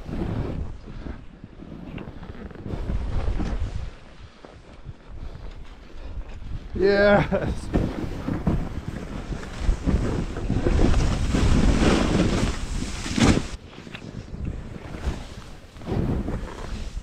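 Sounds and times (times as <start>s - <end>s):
snowboard sliding through snow: 0.0s - 17.0s
wind buffeting microphone: 2.5s - 17.0s.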